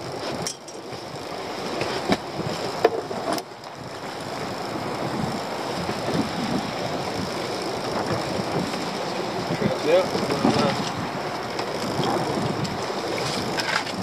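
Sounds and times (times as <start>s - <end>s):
sea noise: 0.0s - 14.0s
wind: 0.0s - 14.0s.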